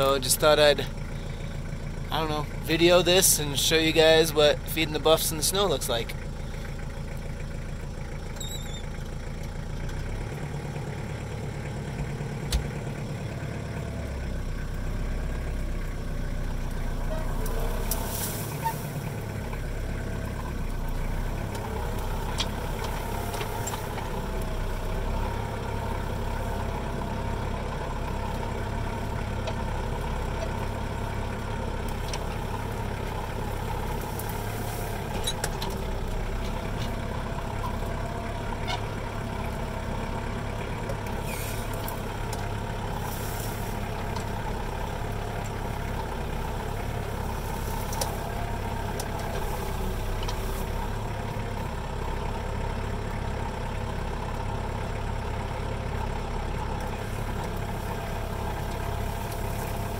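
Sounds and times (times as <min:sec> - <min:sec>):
truck engine running at low revs: 0:00.0 - 0:59.9.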